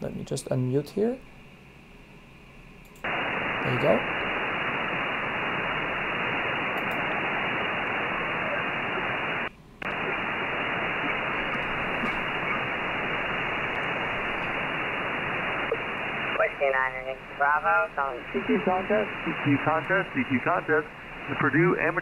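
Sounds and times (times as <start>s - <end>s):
shortwave receiver hiss: 0.0s - 22.0s.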